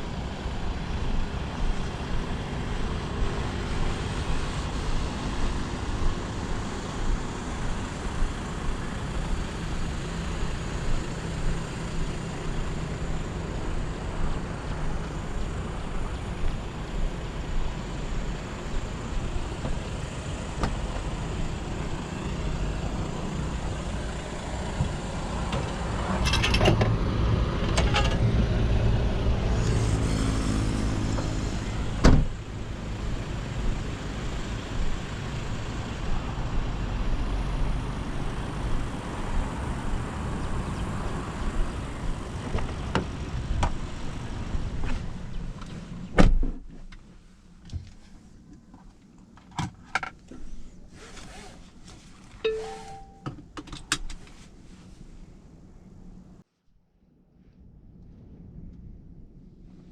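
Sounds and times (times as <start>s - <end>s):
road and tyre noise: 0.0s - 59.9s.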